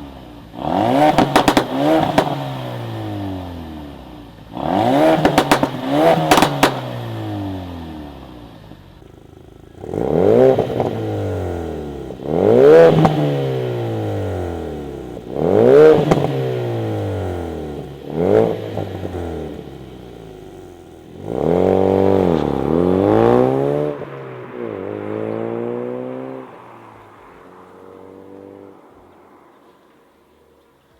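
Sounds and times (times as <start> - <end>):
car engine revving: 0.0 - 30.6.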